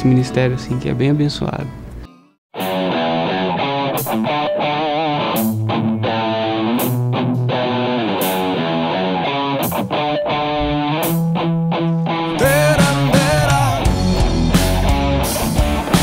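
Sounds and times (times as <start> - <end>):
guitar band music: 0.0 - 16.0.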